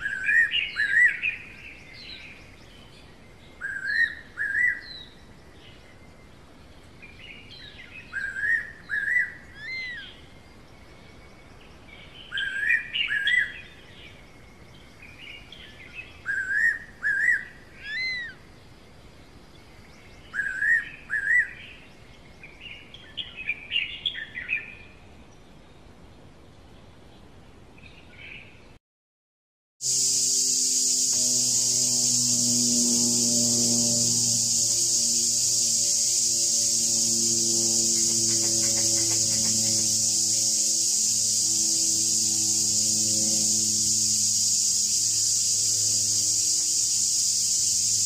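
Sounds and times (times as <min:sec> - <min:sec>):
bird song whistled notes: 0:00.0 - 0:06.3, 0:07.0 - 0:18.5, 0:19.5 - 0:24.9, 0:29.9 - 0:48.0.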